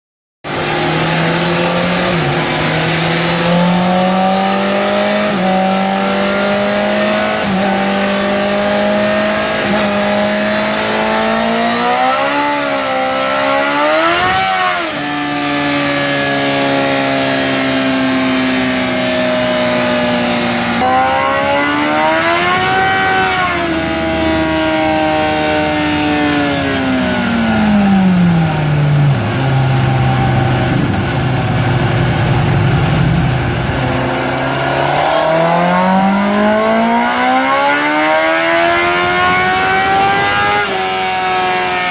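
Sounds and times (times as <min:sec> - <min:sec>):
motorcycle engine revving: 0:00.5 - 0:41.9.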